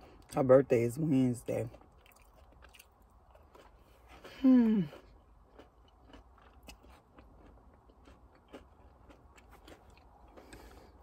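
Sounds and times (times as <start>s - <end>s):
person chewing: 1.6s - 11.0s.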